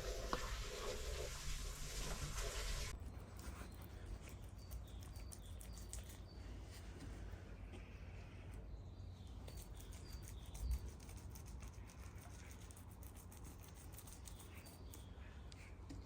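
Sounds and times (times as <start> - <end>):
small birds chirping: 3.0 - 16.0.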